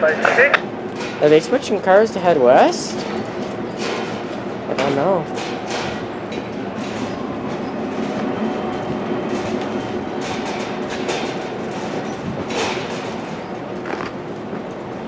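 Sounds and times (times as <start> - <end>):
freight train rumbling on rails: 0.0 - 15.0.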